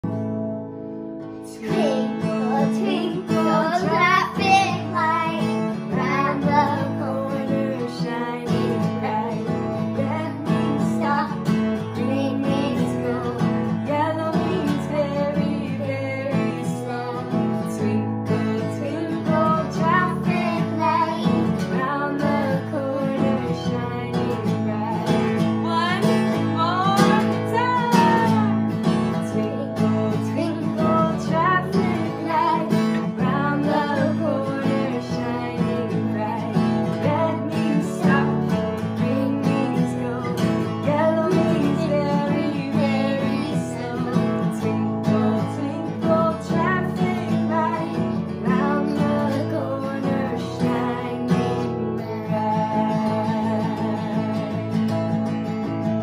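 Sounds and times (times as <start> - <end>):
acoustic guitar strummed: 0.0 - 56.0
woman and girl singing: 1.3 - 55.0.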